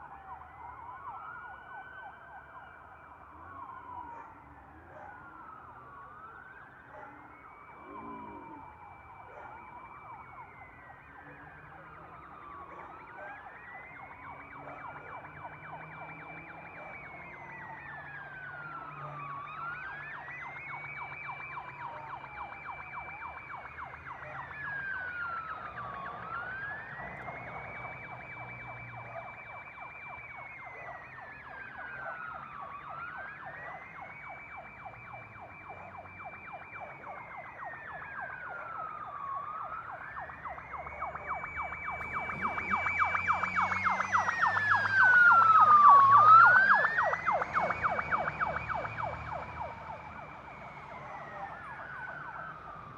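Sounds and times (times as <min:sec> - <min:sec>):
emergency vehicle siren wailing: 0:00.0 - 0:52.9
low traffic rumble: 0:00.0 - 0:52.9.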